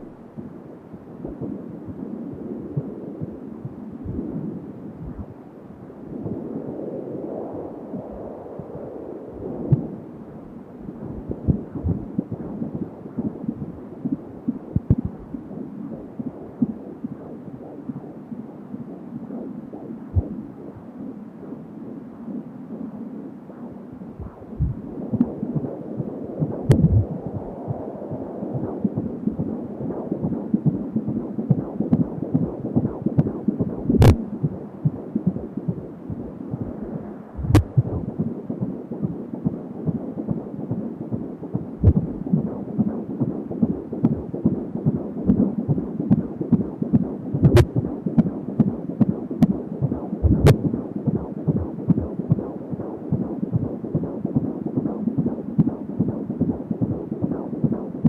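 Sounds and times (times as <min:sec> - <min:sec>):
fetal heartbeat on doppler monitor: 0:00.0 - 0:05.4, 0:06.0 - 0:06.9, 0:08.0 - 0:21.6, 0:22.4 - 0:58.0.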